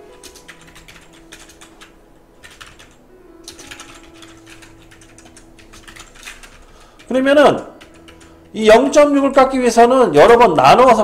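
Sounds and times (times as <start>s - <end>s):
computer keyboard typing: 0.0s - 9.0s.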